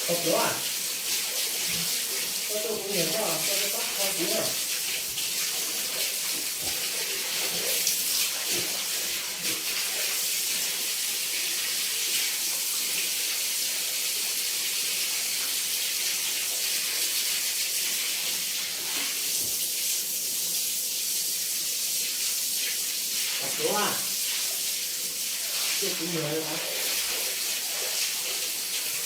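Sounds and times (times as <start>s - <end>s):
hiss of running water: 0.0s - 29.0s.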